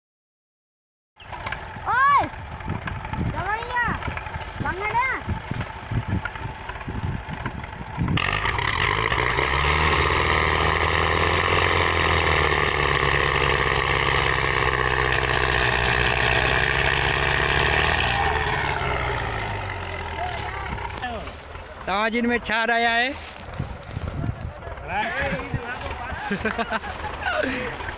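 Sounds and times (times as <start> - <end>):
diesel tractor engines straining: 1.2 - 27.9.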